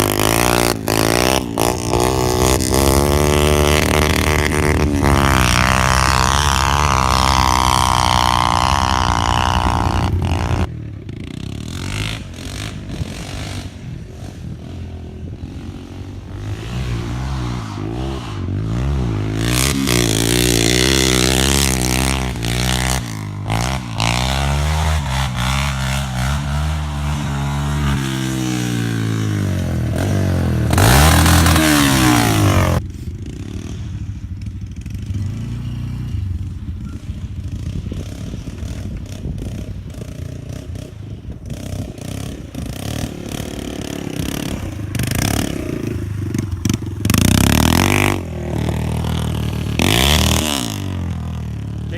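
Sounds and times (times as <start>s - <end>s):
dirt bike engine revving: 0.0s - 51.9s.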